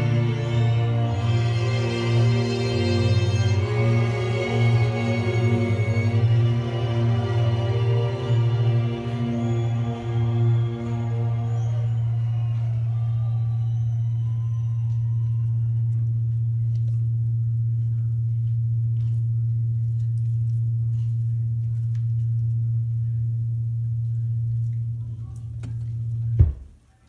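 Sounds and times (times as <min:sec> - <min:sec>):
turntable low hum: 0:04.0 - 0:26.8.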